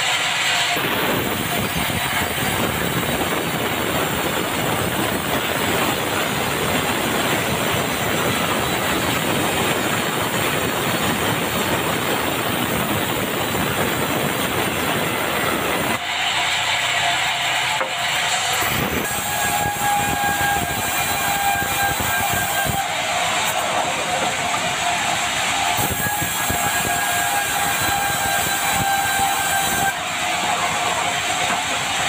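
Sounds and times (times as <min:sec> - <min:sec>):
band saw cutting wood: 0:00.0 - 0:32.0.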